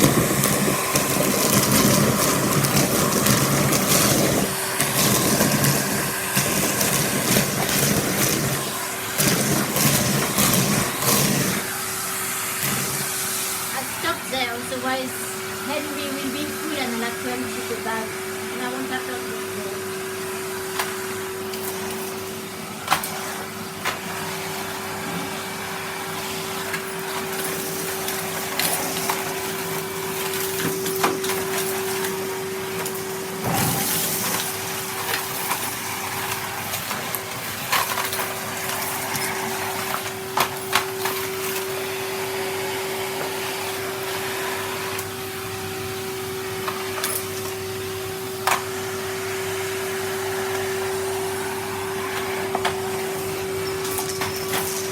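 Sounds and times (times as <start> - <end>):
vacuum cleaner motor whine: 0.0 - 54.9.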